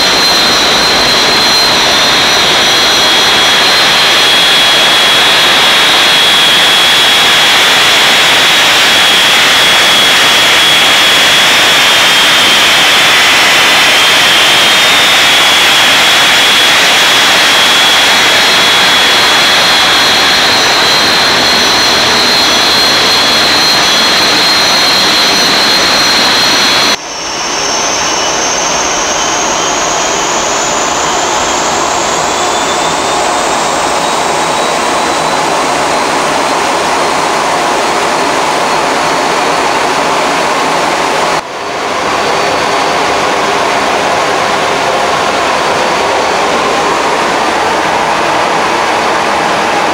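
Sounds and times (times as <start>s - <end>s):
high jet whine: 0.0s - 49.9s
jet engine rush: 0.0s - 49.9s.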